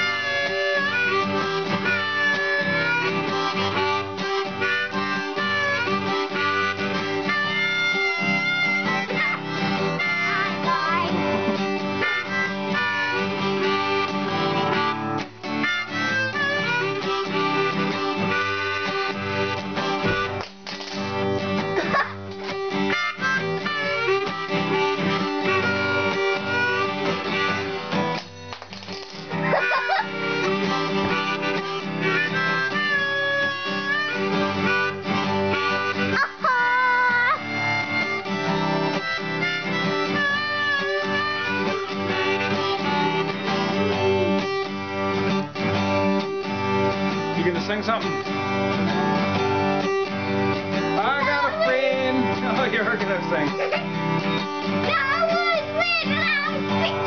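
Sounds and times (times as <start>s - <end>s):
harmonica melody: 0.0s - 57.0s
strummed acoustic guitar: 0.0s - 57.0s.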